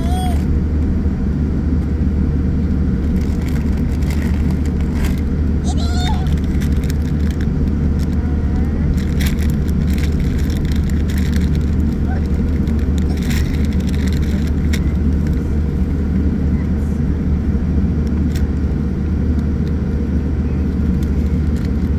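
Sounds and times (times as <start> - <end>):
low rumble of aircraft engines: 0.0 - 21.9.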